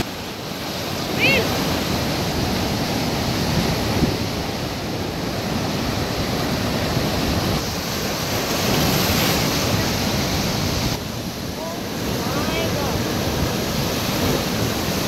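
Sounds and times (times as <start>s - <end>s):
ocean surf breaking over rocks: 0.0s - 15.0s.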